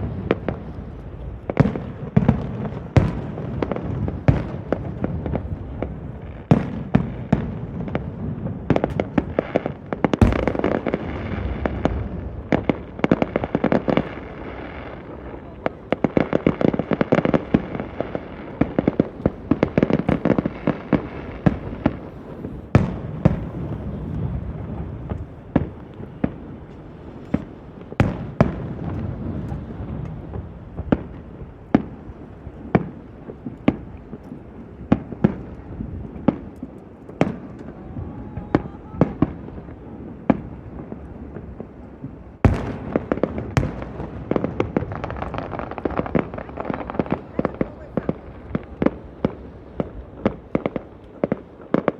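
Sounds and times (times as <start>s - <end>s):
fireworks crackling: 0.0s - 51.9s.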